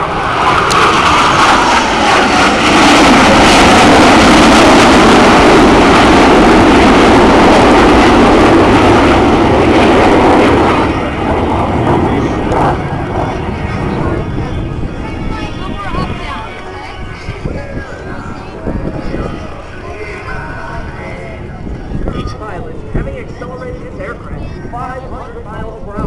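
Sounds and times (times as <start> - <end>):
jets making a low pass: 0.0 - 26.0.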